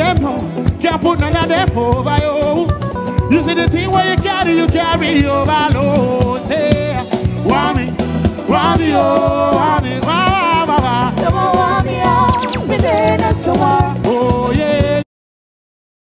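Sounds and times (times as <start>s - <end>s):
backing music with drum beat: 0.0s - 15.0s
man singing into a microphone: 0.0s - 15.0s.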